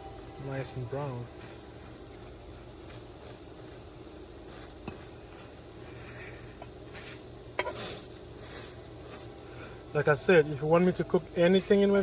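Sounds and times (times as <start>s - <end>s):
fan hum: 0.0s - 12.0s
food frying in a pan: 0.0s - 12.0s.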